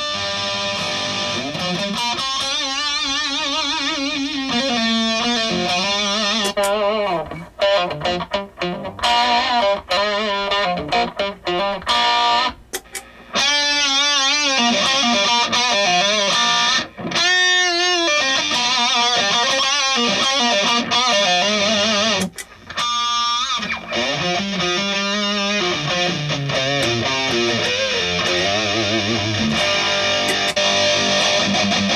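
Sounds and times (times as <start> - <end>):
distorted electric guitar: 0.0 - 31.9.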